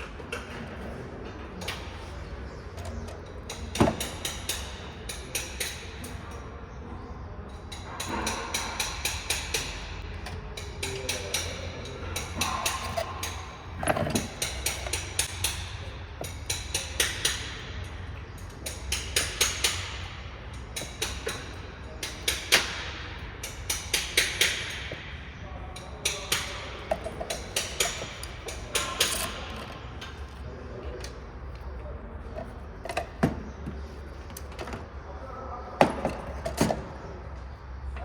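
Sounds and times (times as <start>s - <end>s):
hand tools clicking and knocking: 0.0s - 6.2s, 7.7s - 35.0s, 35.8s - 37.0s.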